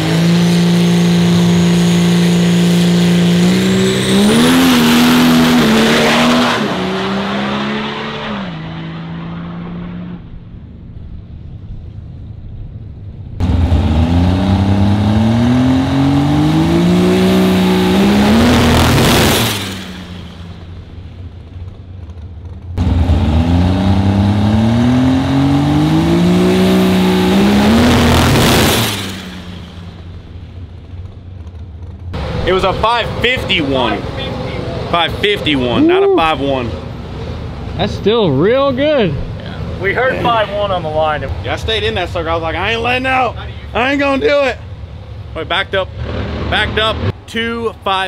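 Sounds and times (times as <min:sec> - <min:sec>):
dragster engine at full throttle: 0:00.0 - 0:10.6, 0:13.4 - 0:48.0
car rushing past: 0:00.0 - 0:11.4, 0:13.4 - 0:21.5, 0:22.8 - 0:31.0, 0:32.1 - 0:48.0.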